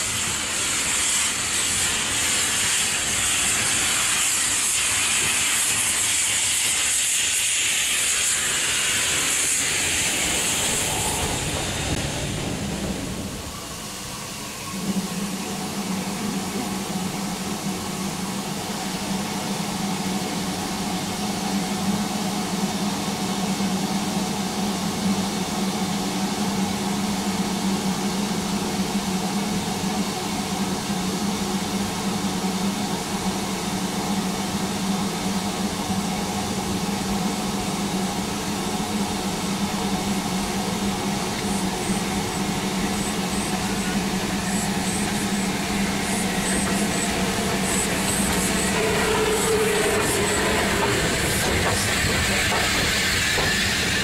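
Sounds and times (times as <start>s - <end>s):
steam locomotive approaching: 0.0s - 54.0s.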